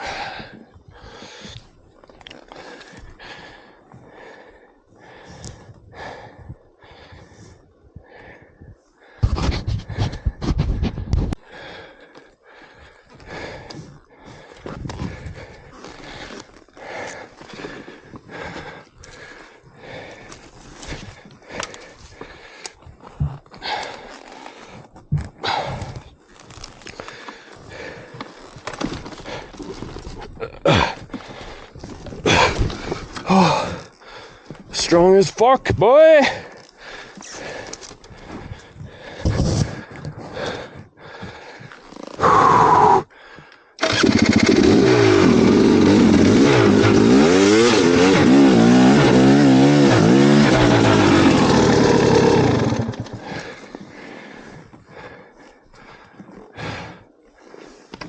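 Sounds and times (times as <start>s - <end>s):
man breathing heavily: 0.0s - 34.8s, 36.0s - 58.0s.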